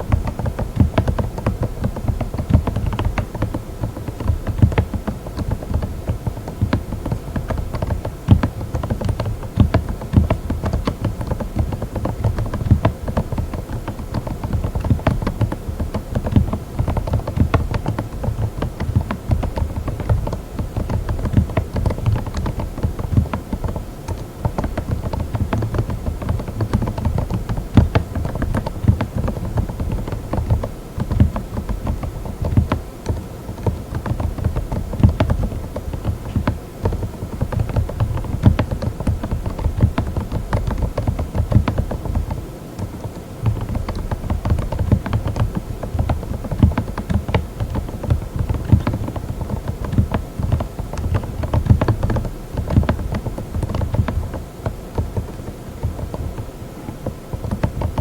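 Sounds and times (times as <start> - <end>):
fast soft keyboard typing: 0.0 - 58.0.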